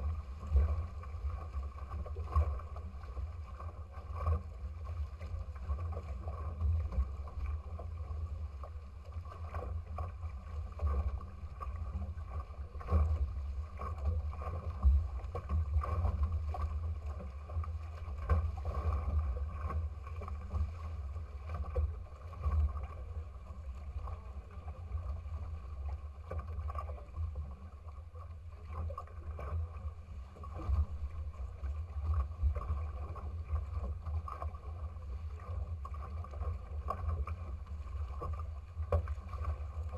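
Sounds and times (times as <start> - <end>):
water rushing past boat bow: 0.0 - 39.9
wind rumble on microphone: 0.0 - 39.9.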